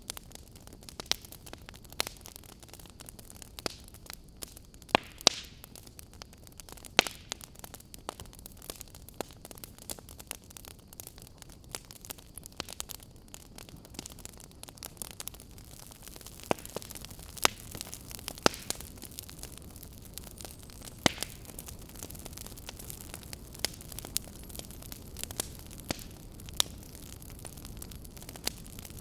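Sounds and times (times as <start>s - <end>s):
fire crackling in fireplace: 0.0s - 29.0s
fire popping: 0.0s - 29.0s
soft hiss of fire: 0.0s - 29.0s.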